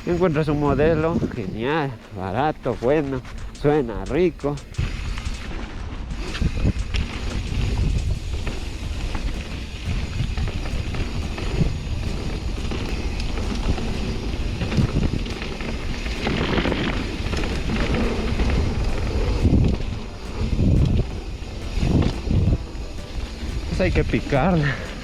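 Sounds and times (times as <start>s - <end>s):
bike rattling and clicking: 0.0s - 25.0s
wind rushing over microphone: 0.0s - 25.0s.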